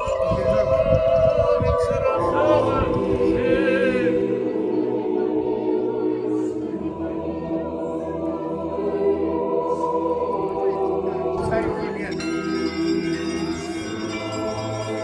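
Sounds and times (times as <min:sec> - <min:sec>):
voices chanting together: 0:00.0 - 0:15.0.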